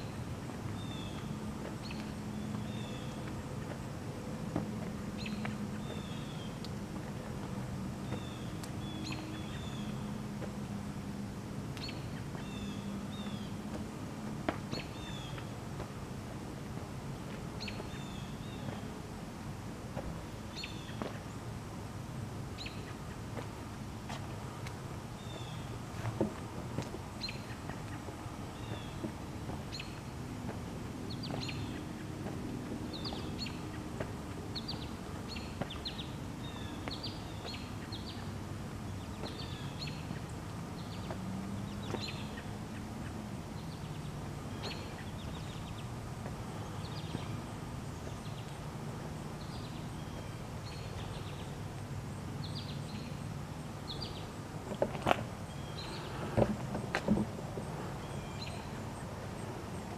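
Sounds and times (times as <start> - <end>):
small birds chirping: 0.0 - 10.7, 11.7 - 16.0, 16.8 - 21.5, 22.5 - 59.9
low steady hum: 0.0 - 59.9.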